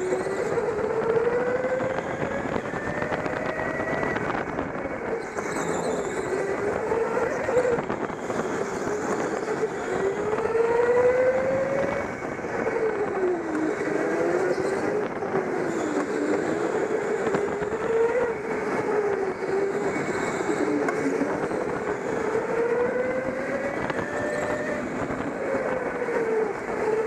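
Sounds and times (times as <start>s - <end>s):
chassis and tyres rumbling: 0.0s - 27.0s
go-kart motor whine: 0.0s - 27.0s.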